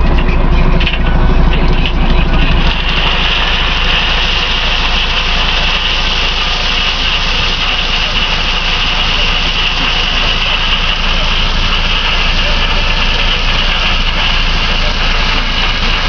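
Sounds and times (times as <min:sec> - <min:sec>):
crushed stone pouring: 0:00.0 - 0:16.0
truck engine running: 0:00.0 - 0:16.0.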